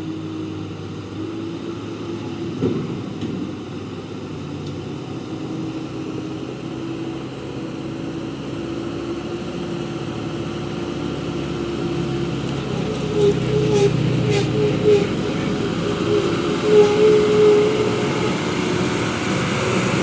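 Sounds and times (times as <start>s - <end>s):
heavy truck engine running: 0.0s - 20.0s.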